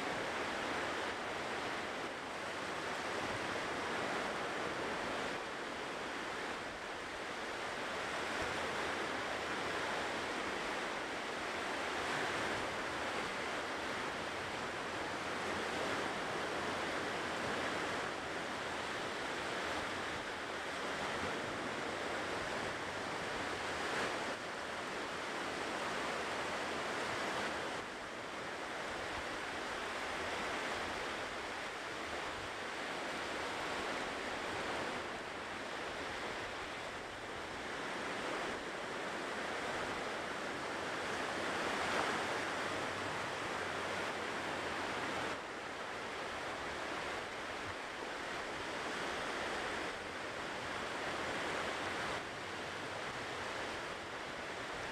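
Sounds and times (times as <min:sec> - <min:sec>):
ocean surf washing ashore: 0:00.0 - 0:54.9.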